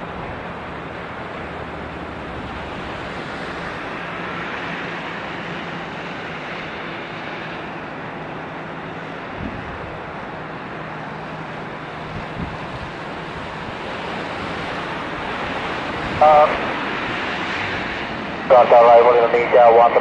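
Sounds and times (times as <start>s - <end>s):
jet airliner engines droning: 0.0s - 20.0s.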